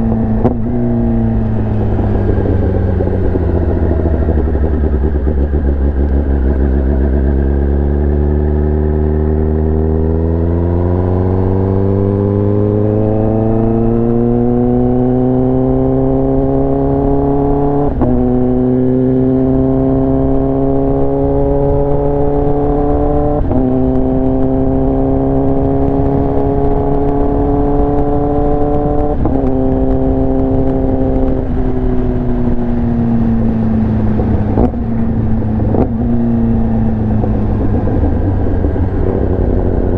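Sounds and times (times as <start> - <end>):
motorcycle accelerating and upshifting: 0.0 - 39.9.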